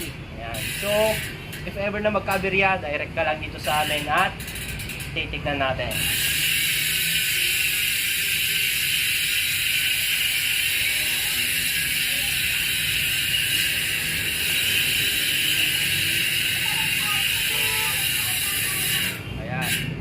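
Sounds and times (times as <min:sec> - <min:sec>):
bicycle hub ratcheting buzz: 0:00.0 - 0:20.0.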